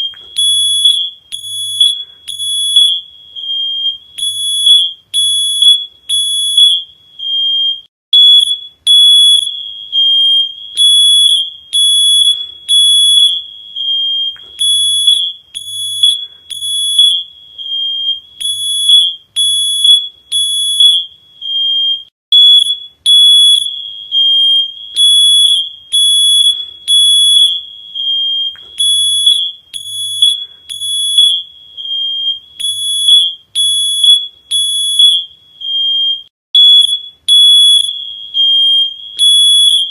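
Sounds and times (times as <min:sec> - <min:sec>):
high-pitched electronic alarm beeping: 0:00.0 - 0:39.9.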